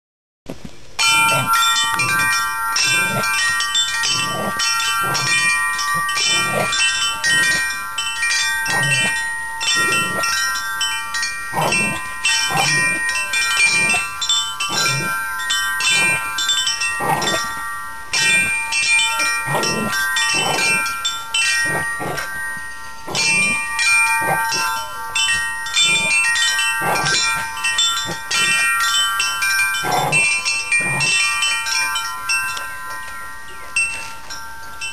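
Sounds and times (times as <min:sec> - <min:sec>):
metal wind chimes ringing: 0:00.8 - 0:34.9.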